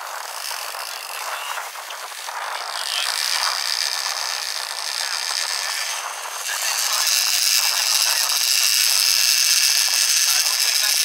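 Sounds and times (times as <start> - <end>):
fishing reel being cranked: 0.0 - 11.0
wind noise: 0.0 - 11.0.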